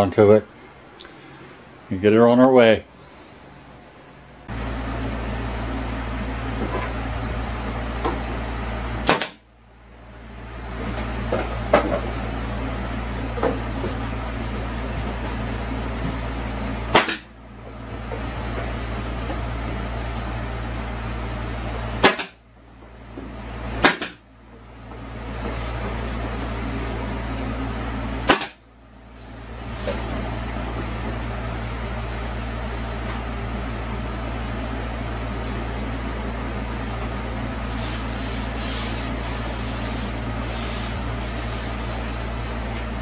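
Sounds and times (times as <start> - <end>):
low motor hum: 0.0 - 43.0.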